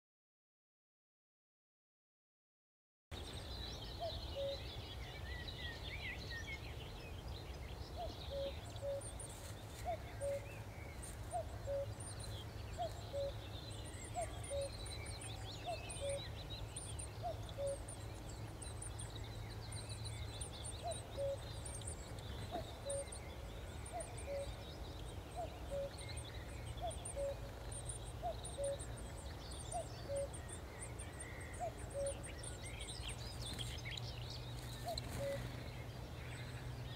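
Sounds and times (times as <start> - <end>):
small birds chirping: 3.1 - 36.9.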